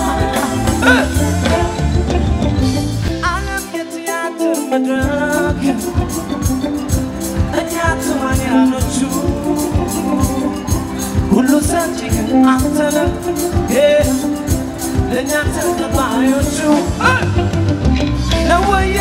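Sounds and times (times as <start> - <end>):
steady drum beat: 0.0 - 3.7, 5.0 - 19.0
live band with singing: 0.0 - 19.0.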